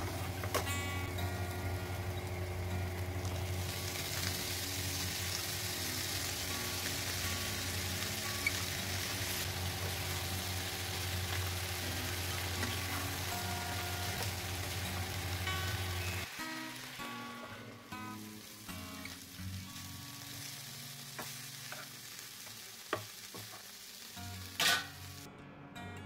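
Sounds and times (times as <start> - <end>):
background music: 0.0 - 22.2, 24.2 - 26.0
food sizzling in hot oil: 1.4 - 25.3.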